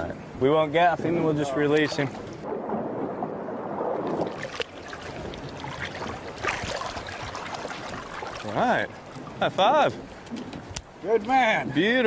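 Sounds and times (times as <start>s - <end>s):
wind noise: 0.0s - 12.0s
water wash: 1.7s - 12.0s.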